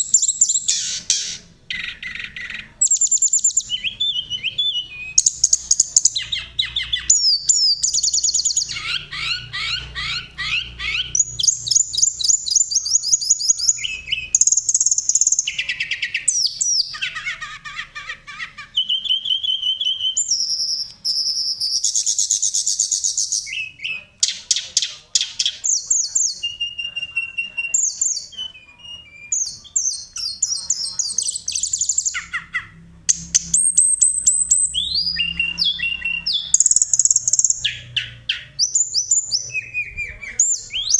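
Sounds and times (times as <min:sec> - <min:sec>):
songbird trills and whistles: 0:00.0 - 0:17.4, 0:18.7 - 0:40.9.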